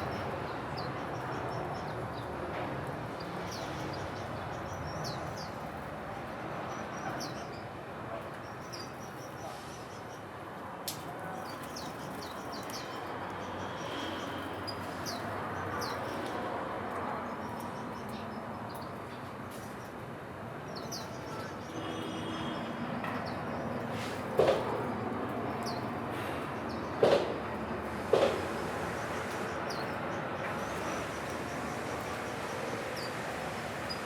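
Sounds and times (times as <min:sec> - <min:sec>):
small birds chirping: 0:00.0 - 0:02.4, 0:03.0 - 0:10.3, 0:10.9 - 0:20.0, 0:20.6 - 0:27.2, 0:28.0 - 0:34.0.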